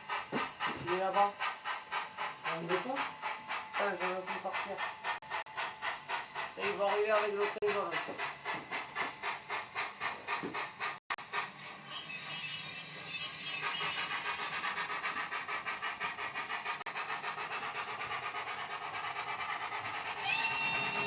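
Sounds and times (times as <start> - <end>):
pulsing model train sound: 0.0 - 21.0.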